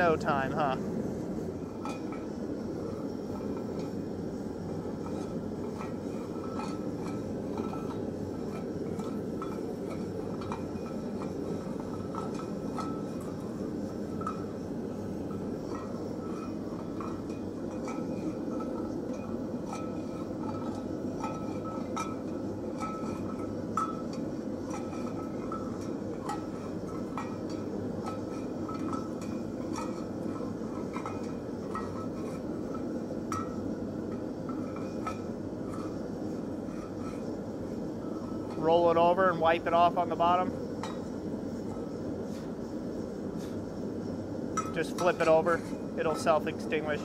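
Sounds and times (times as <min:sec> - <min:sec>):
gas forge rushing: 0:00.0 - 0:47.0.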